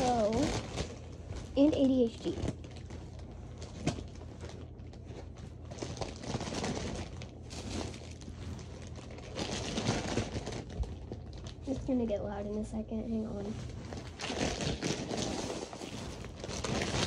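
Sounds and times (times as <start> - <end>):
plastic packaging crinkling: 0.0 - 12.2, 13.1 - 17.0.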